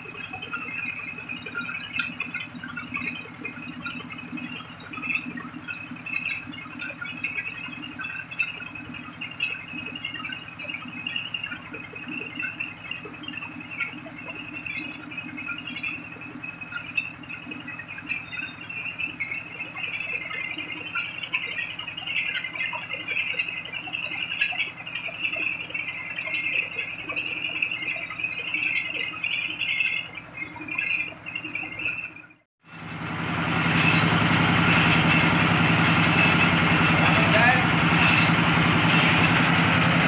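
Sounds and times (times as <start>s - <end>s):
diesel engine running: 0.0s - 40.0s
metallic rattle from drilling rig: 0.0s - 40.0s.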